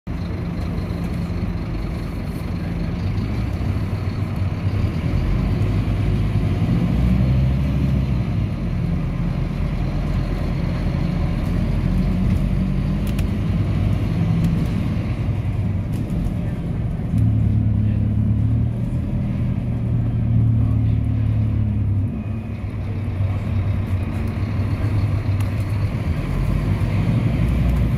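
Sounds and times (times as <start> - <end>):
bus diesel engine running: 0.1 - 27.9
road noise: 0.1 - 27.9.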